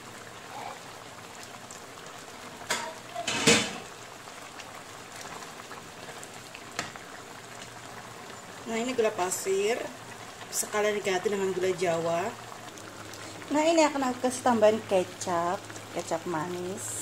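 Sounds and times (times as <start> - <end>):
stew simmering in a wok: 0.0 - 17.0.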